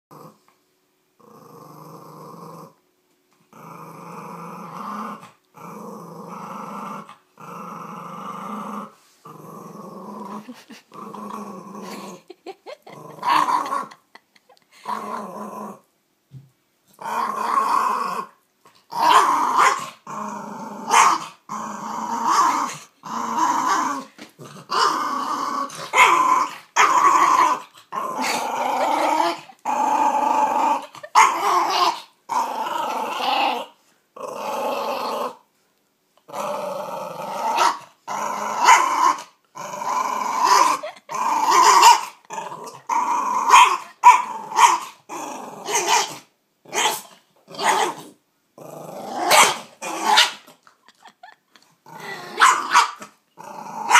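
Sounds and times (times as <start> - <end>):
dog growling and snarling: 0.1 - 0.5, 1.2 - 2.8, 3.5 - 15.8, 16.9 - 35.5, 36.2 - 53.9.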